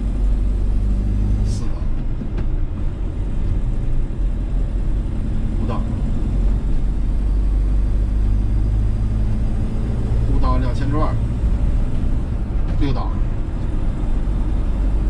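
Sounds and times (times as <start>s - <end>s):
road noise: 0.0s - 15.0s
van engine droning: 0.0s - 15.0s.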